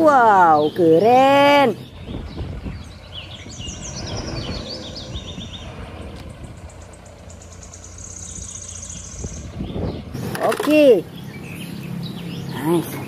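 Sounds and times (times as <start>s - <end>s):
birds chirping: 0.0s - 13.0s
truck engine rumbling: 0.0s - 13.0s.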